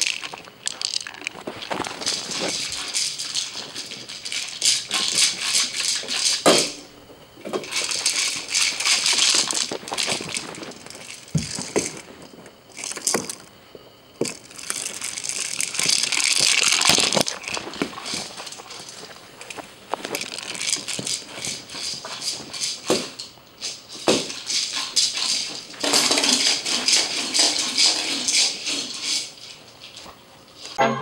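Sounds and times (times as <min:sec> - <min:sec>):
plastic ball rattling on carpet: 0:00.0 - 0:06.6, 0:07.4 - 0:13.5, 0:14.2 - 0:29.2.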